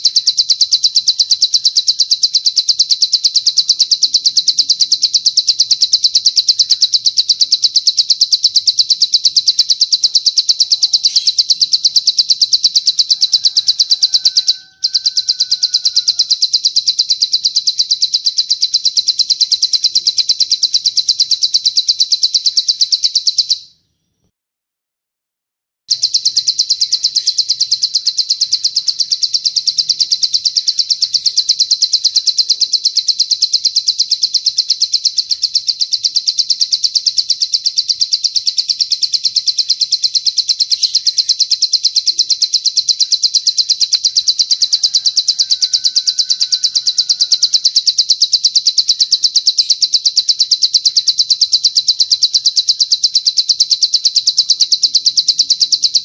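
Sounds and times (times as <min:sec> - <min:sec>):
bird trilling: 0:00.0 - 0:24.3, 0:25.9 - 0:56.0.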